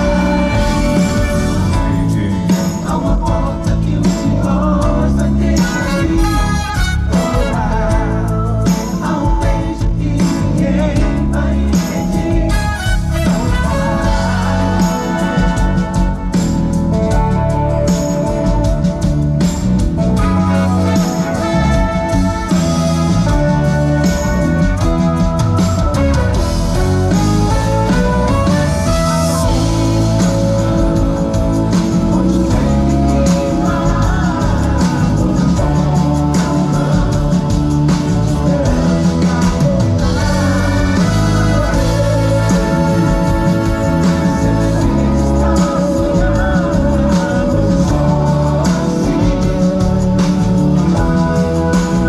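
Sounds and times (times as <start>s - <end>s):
drums: 0.0s - 52.0s
guitar: 0.0s - 52.0s
live band playing: 0.0s - 52.0s
person singing: 0.0s - 52.0s.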